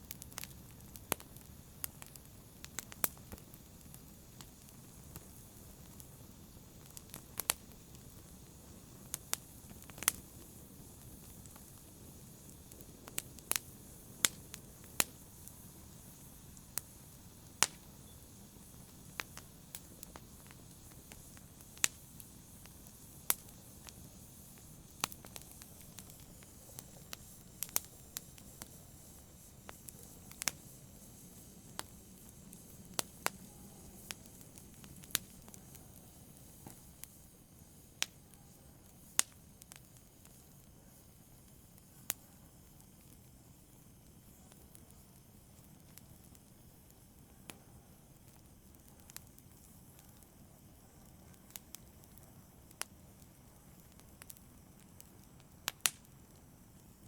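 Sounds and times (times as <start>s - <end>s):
faint steady hiss: 0.0s - 57.0s
wood fire crackling: 0.0s - 57.0s.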